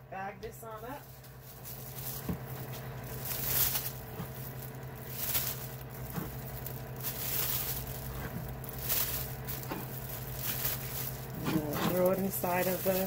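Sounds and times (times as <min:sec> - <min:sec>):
low hum: 0:00.0 - 0:13.0
plastic bag crinkling: 0:00.7 - 0:13.0.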